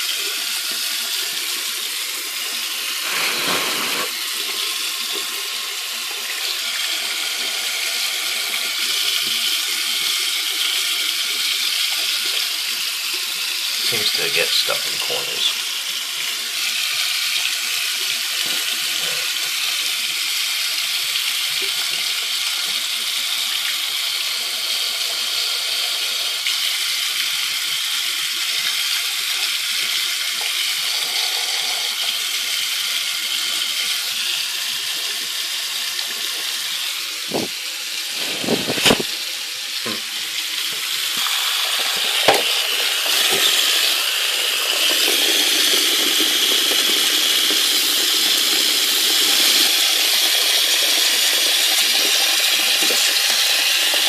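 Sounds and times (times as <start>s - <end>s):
tap water running into sink: 0.0s - 54.0s.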